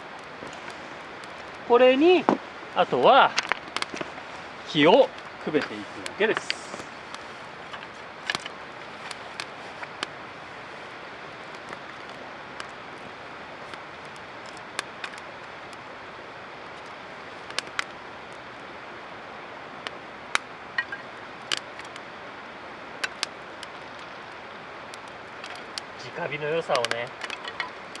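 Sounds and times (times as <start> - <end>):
fire hiss: 0.0 - 28.0
kindling fire crackling: 0.0 - 28.0.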